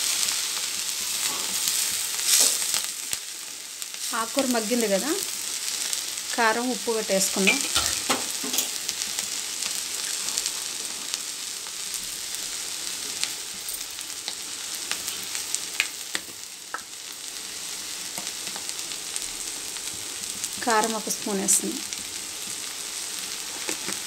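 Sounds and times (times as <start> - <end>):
greens frying with sizzling hiss: 0.0 - 24.0.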